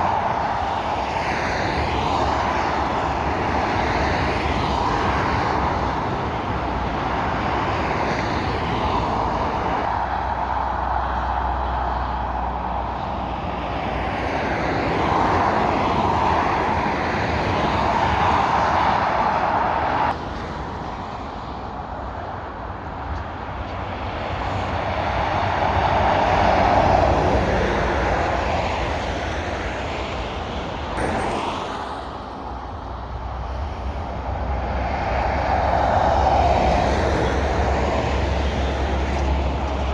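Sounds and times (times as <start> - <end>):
fast motorway traffic passing: 0.0 - 39.9.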